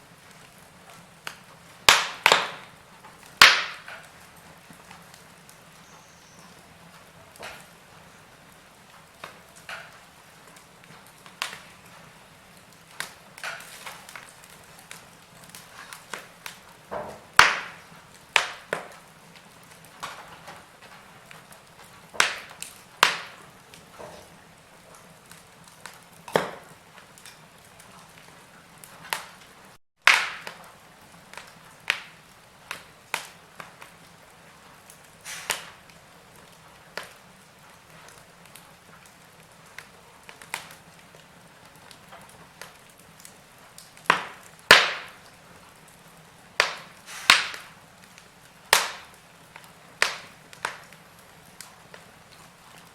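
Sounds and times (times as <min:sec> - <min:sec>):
faint fire hiss: 0:00.0 - 0:52.9
wood fire crackling: 0:00.0 - 0:52.9.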